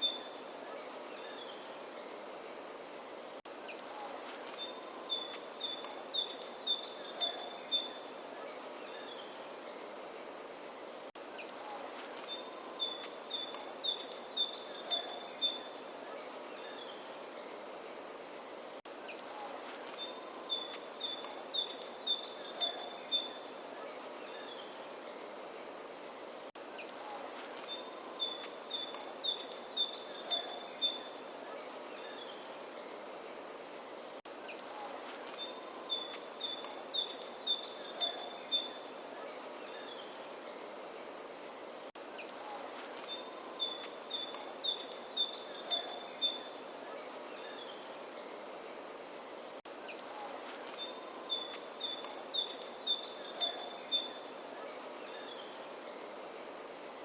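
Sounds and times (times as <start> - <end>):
faint outdoor hiss: 0.0 - 57.0
songbird singing: 0.0 - 57.0.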